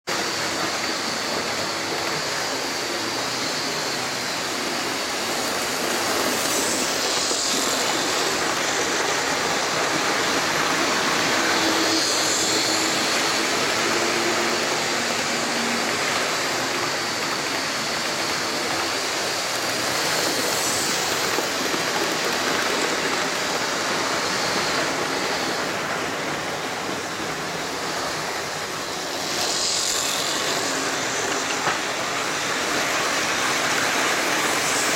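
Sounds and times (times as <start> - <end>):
model trains rolling on track: 0.1 - 34.9.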